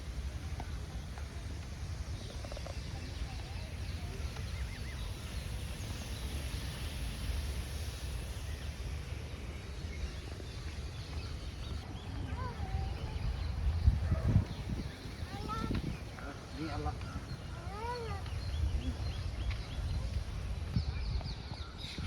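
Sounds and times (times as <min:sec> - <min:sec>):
soft hiss: 0:00.0 - 0:20.8
faint bird chirps: 0:00.0 - 0:22.0
wind rumble on microphone: 0:00.0 - 0:22.0.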